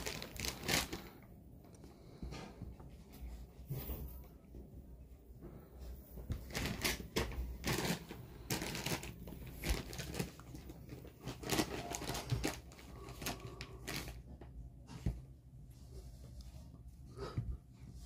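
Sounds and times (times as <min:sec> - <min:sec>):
rustling of fabric and bedding: 0:00.0 - 0:18.0.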